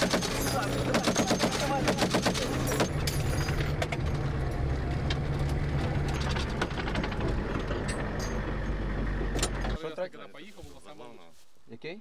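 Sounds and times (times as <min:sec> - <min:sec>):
vehicle engine running: 0:00.0 - 0:09.9.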